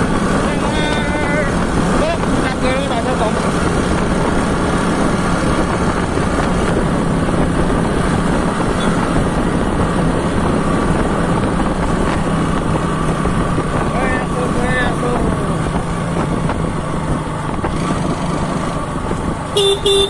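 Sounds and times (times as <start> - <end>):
wind rushing: 0.0 - 19.9
motorbike engine running: 0.0 - 20.0
road noise: 0.0 - 20.0.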